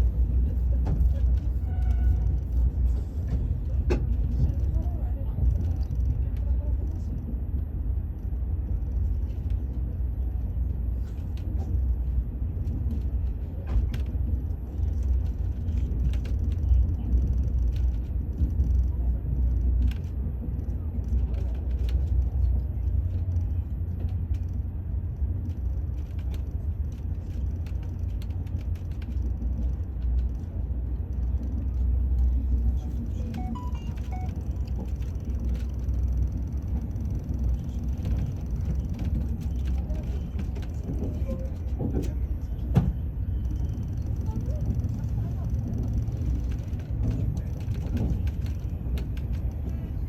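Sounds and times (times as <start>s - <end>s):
moving vehicle rumble: 0.0s - 50.0s.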